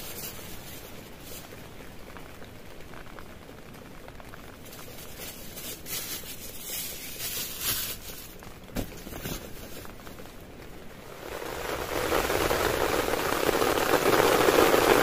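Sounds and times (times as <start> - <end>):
heavy rain pattering on tent: 0.0 - 15.0.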